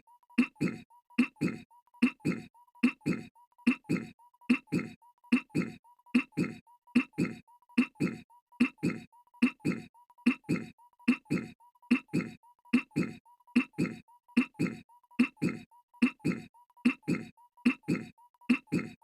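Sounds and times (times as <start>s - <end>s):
cartoon voice gruff grunts: 0.4s - 19.0s.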